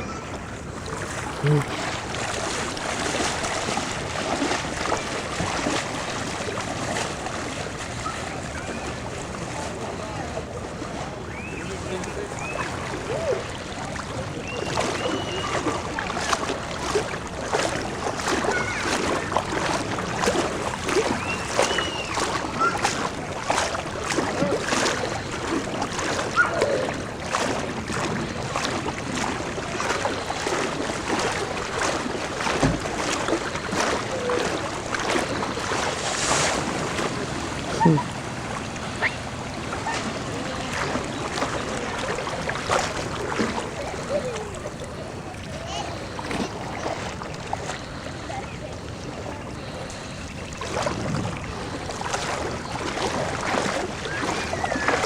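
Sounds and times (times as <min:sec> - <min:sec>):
people wading through floodwater: 0:00.0 - 0:55.0.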